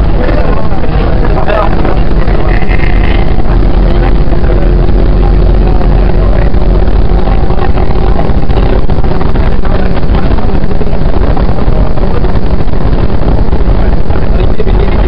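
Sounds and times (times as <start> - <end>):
faint steady hum: 0.0 - 15.0
train wheels rumbling on rail: 0.0 - 15.0.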